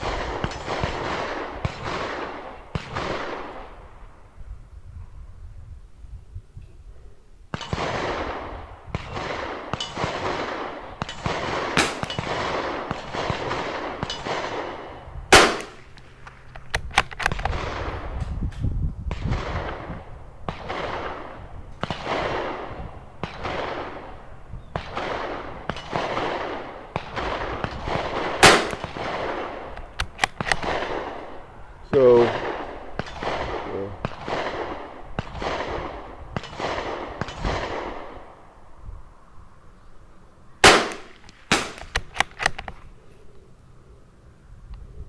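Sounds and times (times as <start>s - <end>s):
rifle shots: 0.0s - 4.0s, 7.5s - 18.3s, 19.1s - 38.4s, 40.6s - 42.9s.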